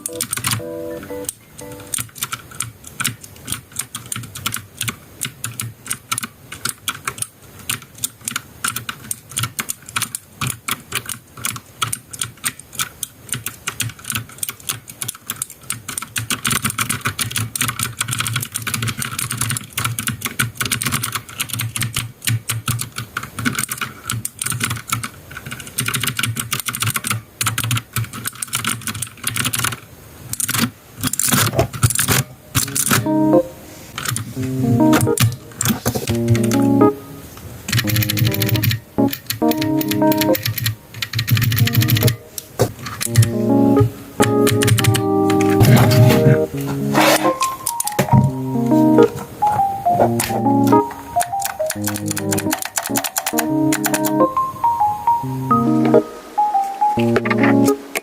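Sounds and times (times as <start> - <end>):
mechanical keyboard typing: 0.0 - 29.8, 30.4 - 33.4, 34.0 - 37.0, 37.7 - 58.0.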